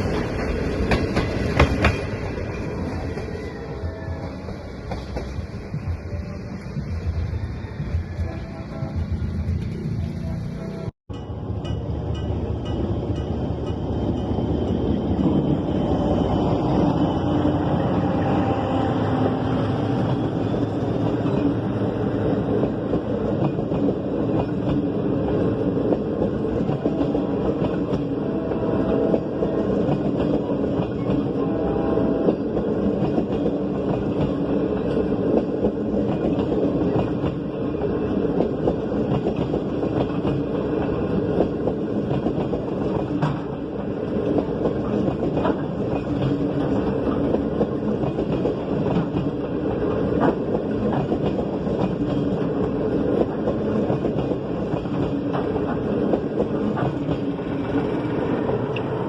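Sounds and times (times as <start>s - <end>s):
train wheels clattering over rails: 0.0s - 9.9s, 19.1s - 59.0s.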